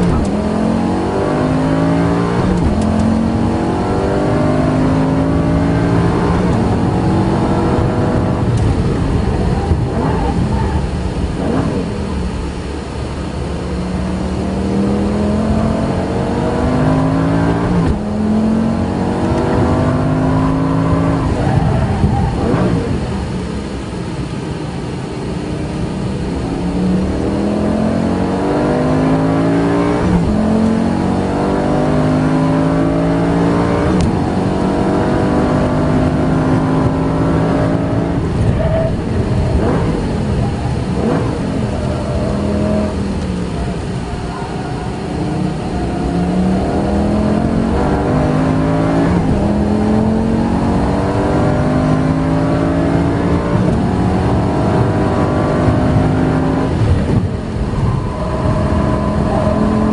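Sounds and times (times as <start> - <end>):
car engine revving through gears: 0.0 - 24.4, 25.0 - 59.9.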